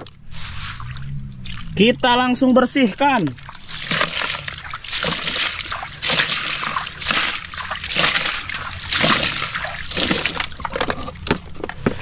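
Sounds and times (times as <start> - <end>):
water splashing: 0.3 - 2.2, 2.8 - 11.5.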